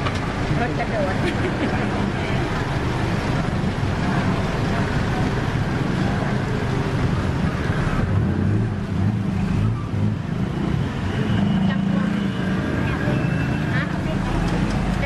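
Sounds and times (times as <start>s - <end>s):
low engine hum: 0.0s - 15.0s
street traffic rumble: 0.0s - 15.0s.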